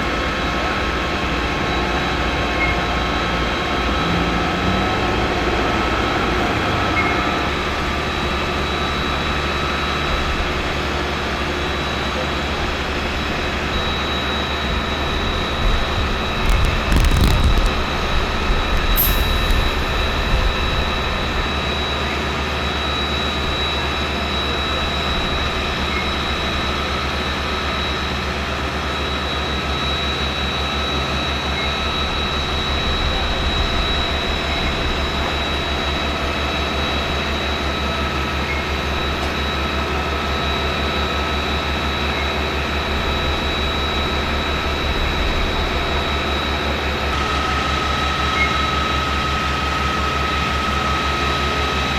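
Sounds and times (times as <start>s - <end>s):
heavy engine running: 0.0s - 51.9s.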